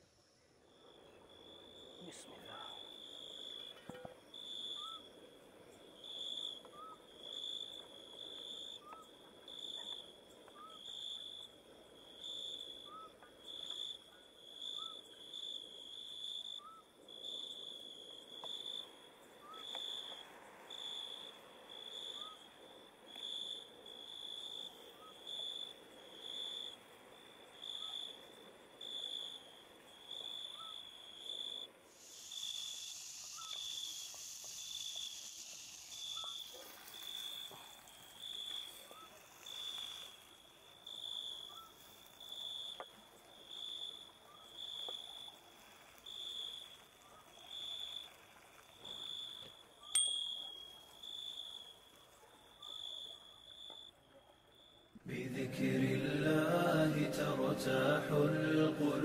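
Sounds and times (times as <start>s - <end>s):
steady high hiss: 0.0s - 9.6s, 17.0s - 50.9s, 55.0s - 59.0s
crickets chirping: 0.0s - 59.0s
low rising insect call: 0.0s - 59.0s.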